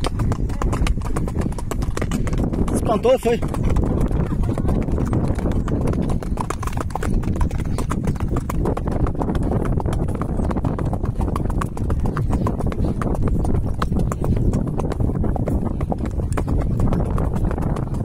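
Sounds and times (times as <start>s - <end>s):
horse hooves clip-clopping on dirt: 0.0s - 18.0s.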